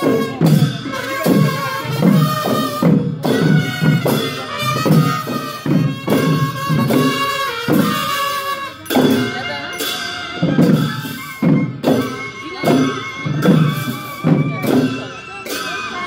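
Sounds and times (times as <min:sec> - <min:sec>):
barrel drums beating: 0:00.0 - 0:15.8
wind instrument melody: 0:00.0 - 0:16.0.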